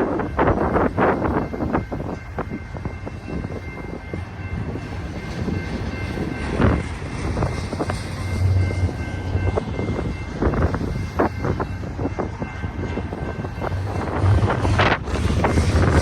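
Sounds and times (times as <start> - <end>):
low train rumble: 0.0 - 16.0.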